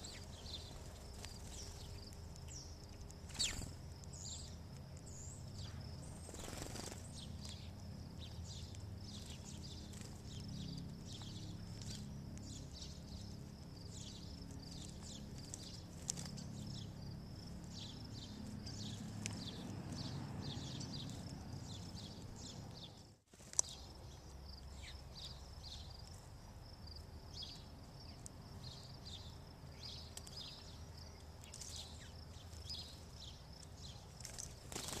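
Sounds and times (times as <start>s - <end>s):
sparrows chirping: 0.0s - 35.0s.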